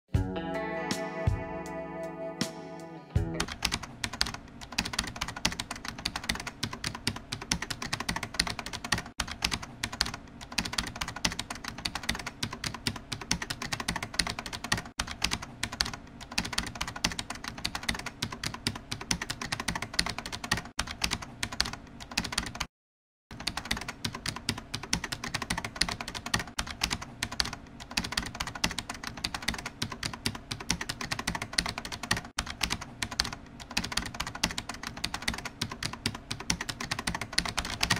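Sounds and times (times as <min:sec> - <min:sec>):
rapid keyboard typing: 0:03.4 - 0:22.7, 0:23.3 - 0:37.9.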